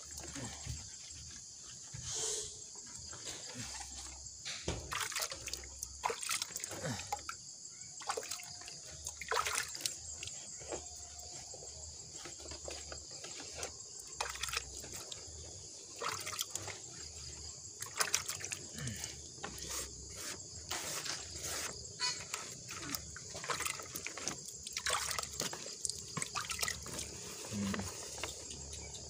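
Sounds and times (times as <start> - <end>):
water splashing and dribbling: 0.0 - 2.0, 2.8 - 29.0.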